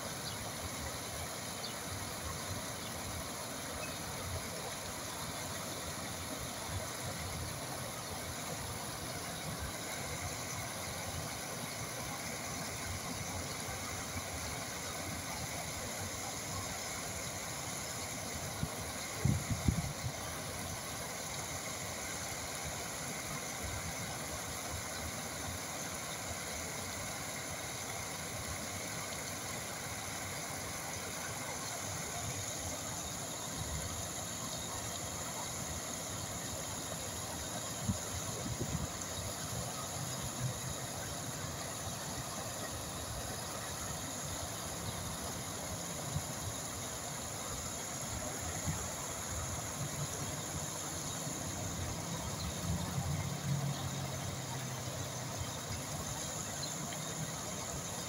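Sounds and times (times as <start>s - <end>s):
water flowing: 0.0s - 58.0s.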